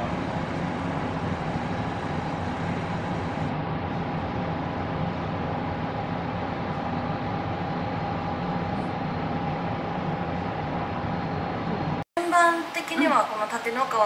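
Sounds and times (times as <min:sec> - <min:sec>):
faint constant whine: 0:00.0 - 0:14.0
machine room hum and hiss: 0:00.0 - 0:14.0.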